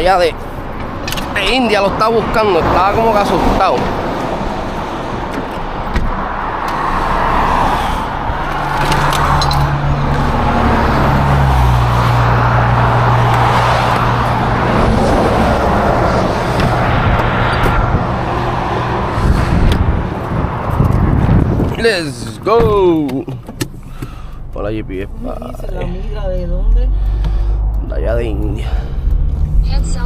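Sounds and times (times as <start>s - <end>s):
car engine hum: 0.0s - 30.0s
road noise: 0.0s - 30.0s.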